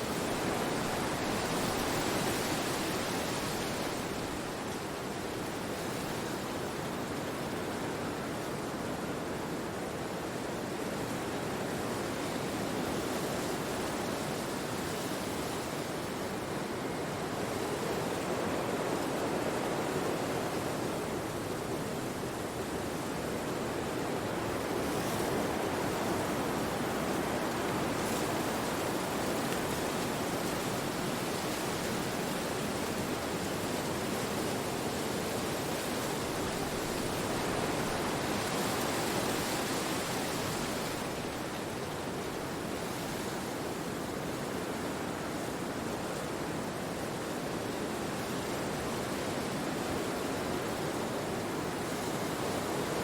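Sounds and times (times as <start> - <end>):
wind rushing through trees: 0.0 - 53.0.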